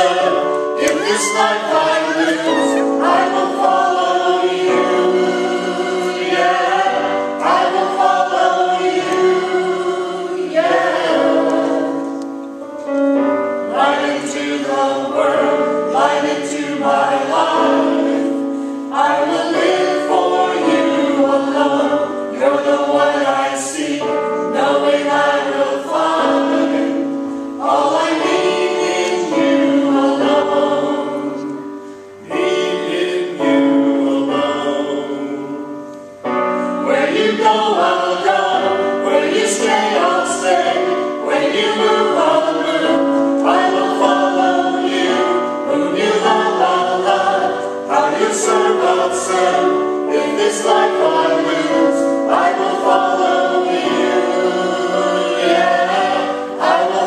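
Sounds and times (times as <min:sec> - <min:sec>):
choir singing: 0:00.0 - 0:12.3, 0:13.2 - 0:57.0.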